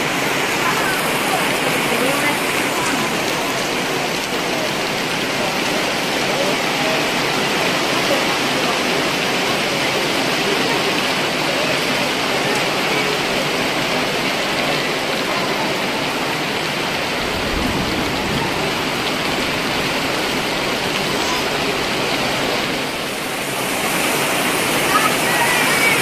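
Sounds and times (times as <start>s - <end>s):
heavy rain on grass: 0.0s - 26.0s.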